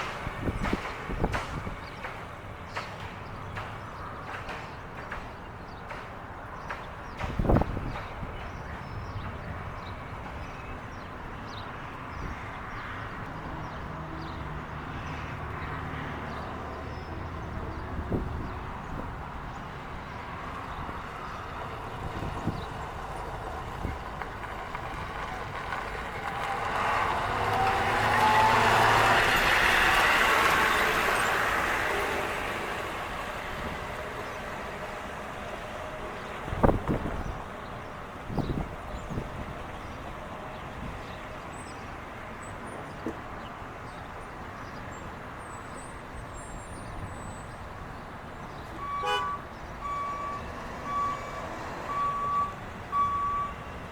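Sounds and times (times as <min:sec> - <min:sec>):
bus diesel engine running: 0:00.0 - 0:11.6, 0:13.1 - 0:53.9.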